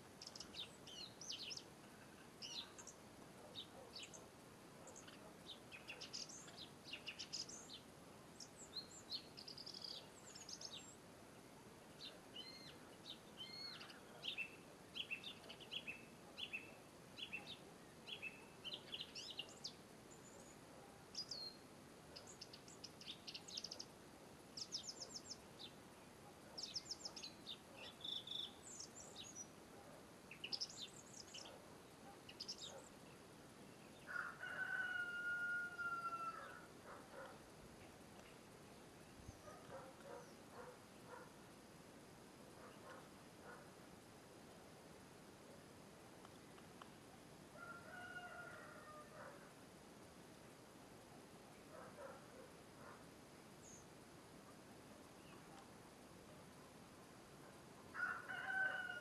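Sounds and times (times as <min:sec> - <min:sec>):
songbird song and calls: 0:00.0 - 0:49.6, 0:50.4 - 0:59.0.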